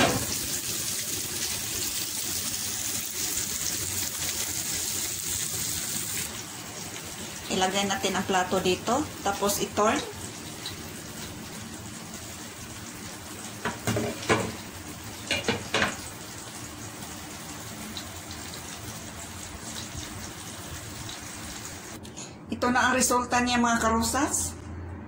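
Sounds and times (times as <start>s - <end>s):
omelette sizzling in pan: 0.0s - 22.0s.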